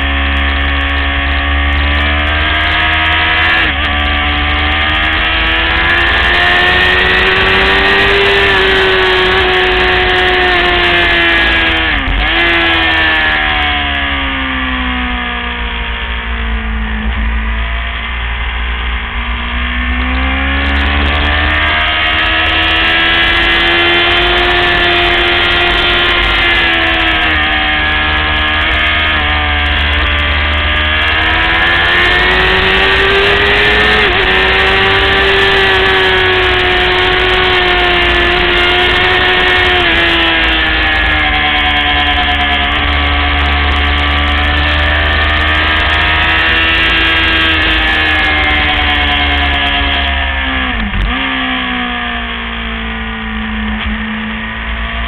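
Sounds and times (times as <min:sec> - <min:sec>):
motorcycle engine running hard: 0:00.0 - 0:55.0.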